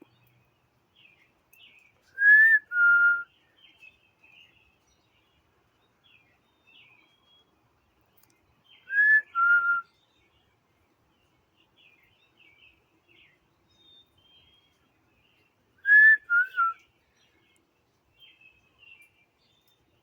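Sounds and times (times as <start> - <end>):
faint high bird chirps: 0.0 - 20.0.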